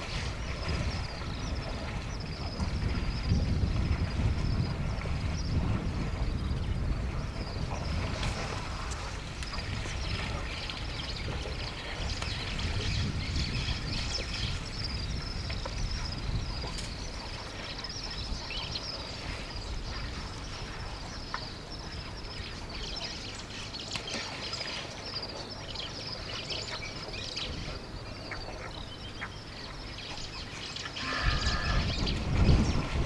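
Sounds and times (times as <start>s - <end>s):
small birds chirping: 6.2s - 33.0s.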